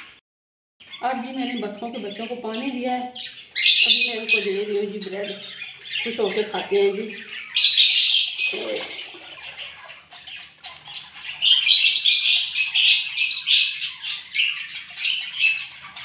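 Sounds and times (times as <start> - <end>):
ducklings peeping: 0.8 - 16.0.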